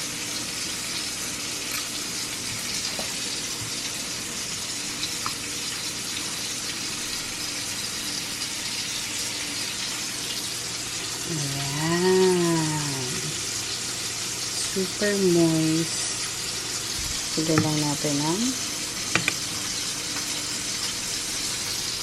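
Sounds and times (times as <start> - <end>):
sausage sizzling in a pan: 0.0 - 22.0.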